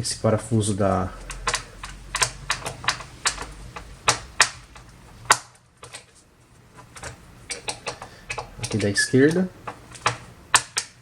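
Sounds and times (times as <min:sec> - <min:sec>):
screw clicking as it loosens: 0:01.2 - 0:06.1, 0:06.8 - 0:11.0.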